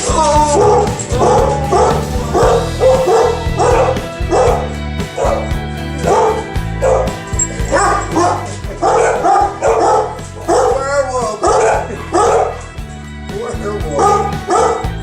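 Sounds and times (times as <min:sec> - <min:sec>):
dog barking and yipping: 0:00.0 - 0:12.7, 0:13.9 - 0:15.0
background music: 0:00.0 - 0:15.0.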